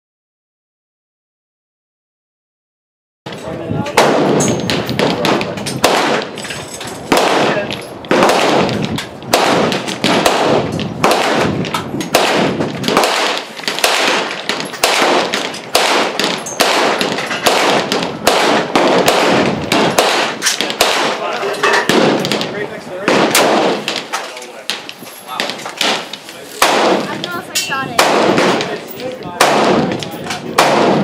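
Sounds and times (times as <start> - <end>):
gunshots echoing: 3.3 - 31.0.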